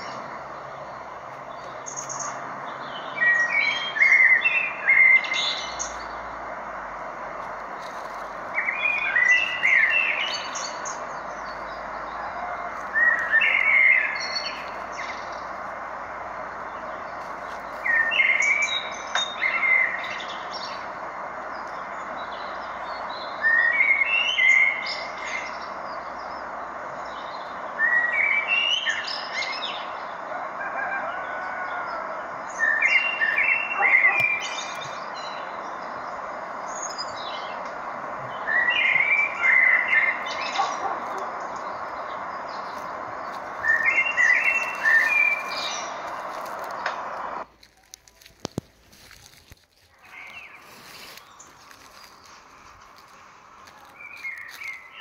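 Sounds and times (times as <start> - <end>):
steady rushing noise: 0.0 - 47.6
songbird singing: 0.0 - 55.0.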